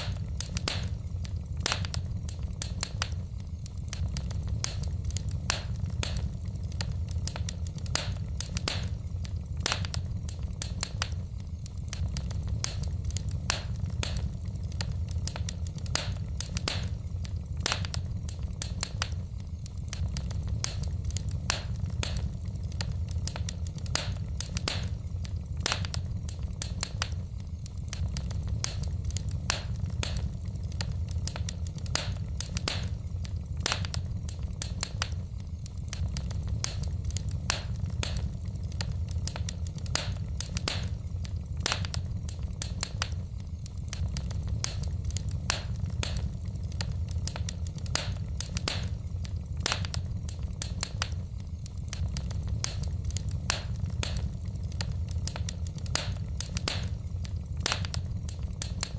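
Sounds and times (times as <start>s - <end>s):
logs crackling and popping: 0.0s - 58.9s
low rumble of flames: 0.0s - 58.9s.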